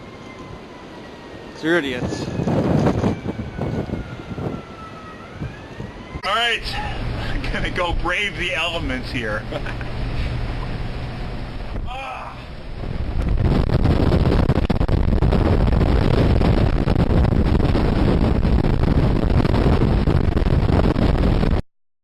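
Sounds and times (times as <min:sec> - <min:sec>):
blizzard wind blowing on microphone: 0:00.0 - 0:21.6.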